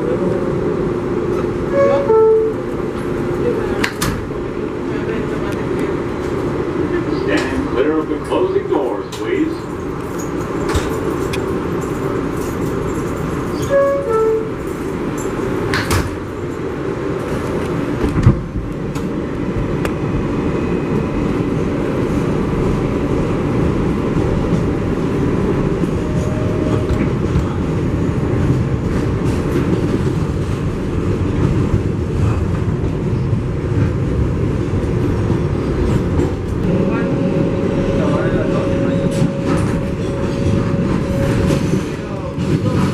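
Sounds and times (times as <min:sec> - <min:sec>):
subway car wheels rumbling: 0:00.0 - 0:42.9.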